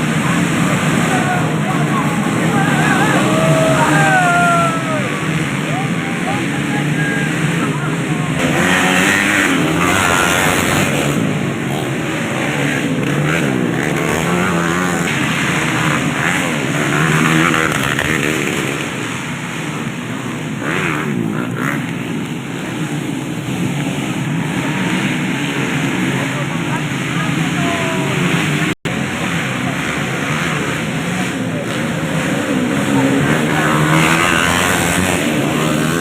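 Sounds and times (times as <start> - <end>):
racing motorcycle engines: 0.0 - 36.0.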